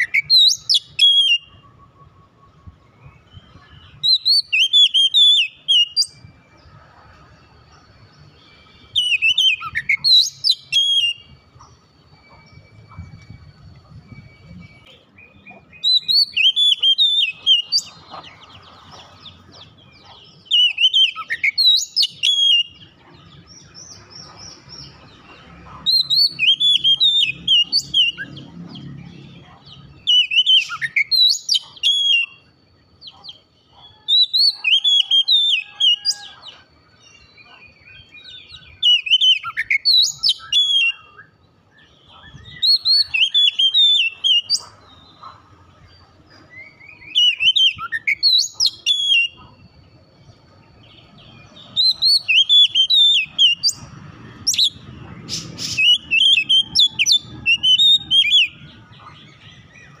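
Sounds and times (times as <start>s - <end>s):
songbird whistles and chirps: 0.0s - 60.0s.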